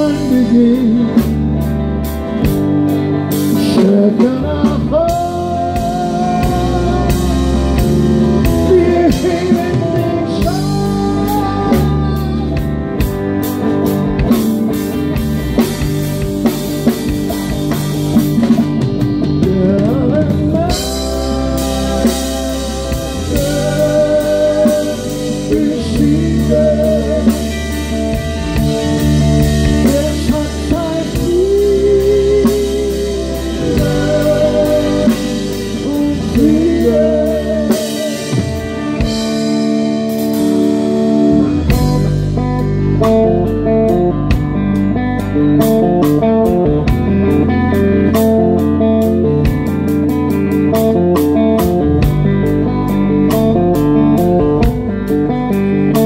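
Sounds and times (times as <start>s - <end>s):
bending guitar lead line: 0.0s - 56.0s
live rock band playing: 0.0s - 56.0s.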